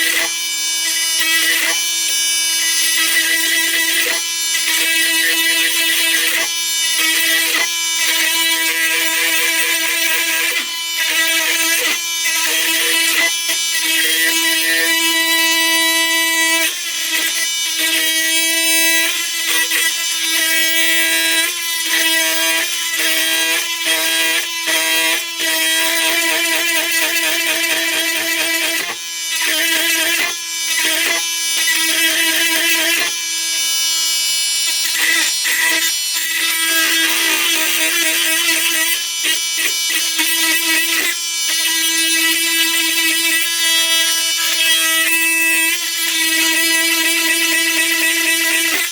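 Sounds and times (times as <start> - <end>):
oscillating multi-tool buzzing: 0.0 - 48.9.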